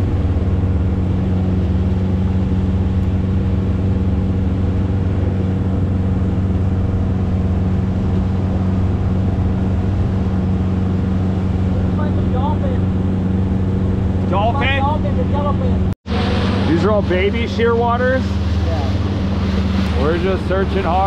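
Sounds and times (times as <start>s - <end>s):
boat engine humming: 0.0s - 21.0s
wind and water rushing: 0.0s - 21.0s.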